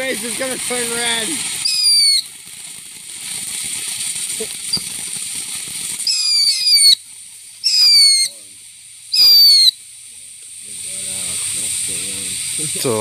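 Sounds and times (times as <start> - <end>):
firework fountain hissing: 0.0 - 13.0
shrill firework whistles: 0.0 - 13.0.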